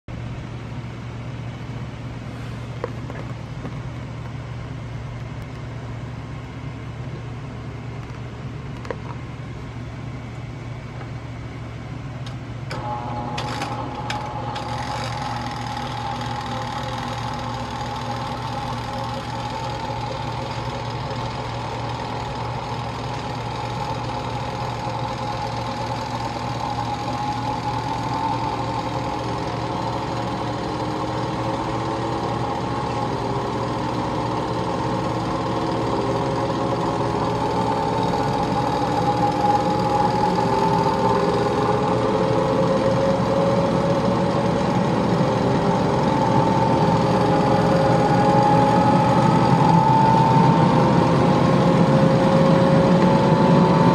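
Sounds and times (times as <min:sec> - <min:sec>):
low steady hum: 0:00.1 - 0:53.9
centrifuge motor whine: 0:10.3 - 0:53.9.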